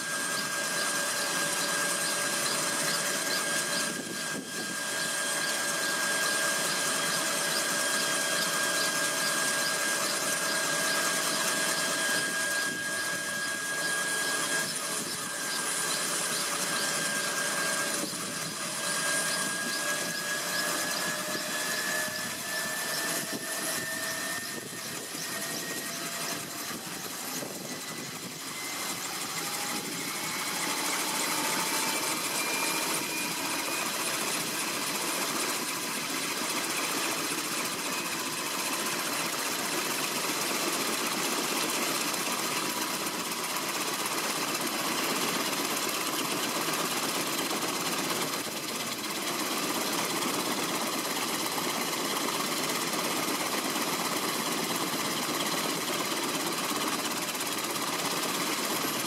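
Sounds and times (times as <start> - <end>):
helicopter engine whine: 0.0 - 59.0
helicopter rotors rushing: 0.0 - 59.0.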